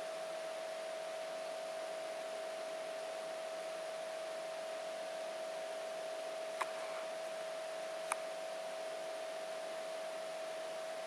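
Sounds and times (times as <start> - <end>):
mid-pitched hum: 0.0 - 11.0.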